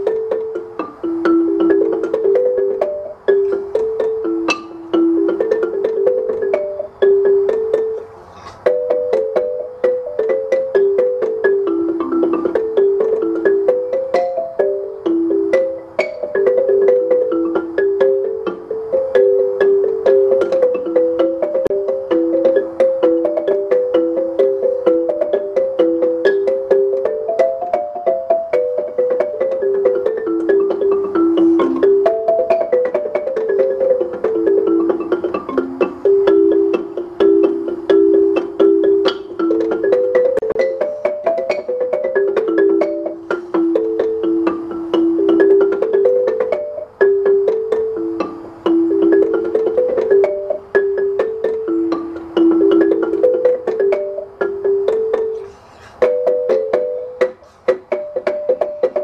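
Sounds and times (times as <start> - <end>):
marimba melodic runs: 0.0 - 59.0.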